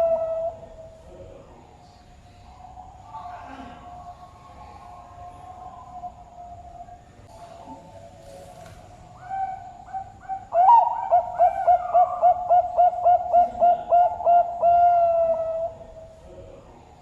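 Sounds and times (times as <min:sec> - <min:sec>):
dove cooing: 0:00.0 - 0:01.5, 0:02.4 - 0:16.2.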